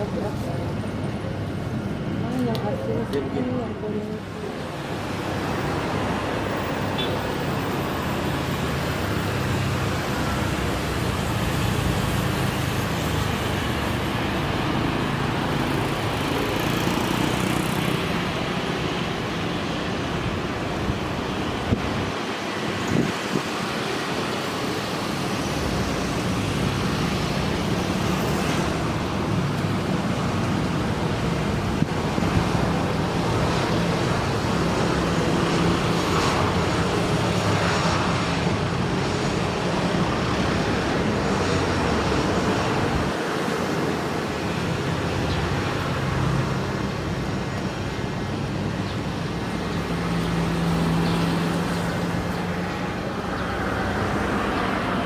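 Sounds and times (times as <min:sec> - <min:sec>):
traffic noise: 0:00.0 - 0:55.0.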